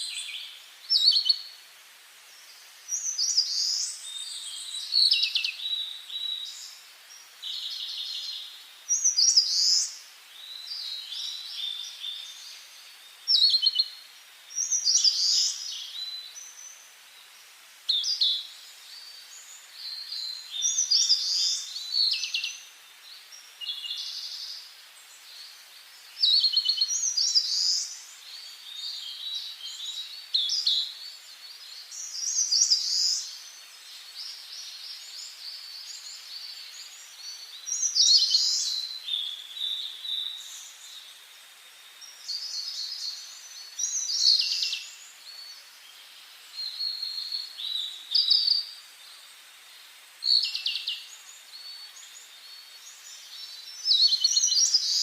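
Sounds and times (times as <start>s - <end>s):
faint steady hiss: 0.0s - 55.0s
songbirds singing: 0.0s - 55.0s.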